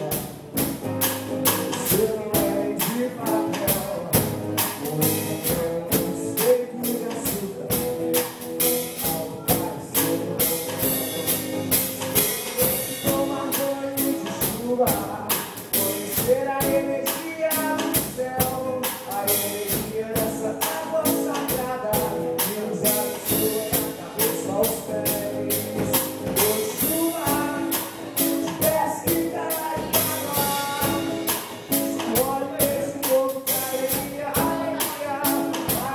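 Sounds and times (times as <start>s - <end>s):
person singing: 0.0s - 0.8s, 1.4s - 35.9s
instrumental band music: 0.0s - 35.9s.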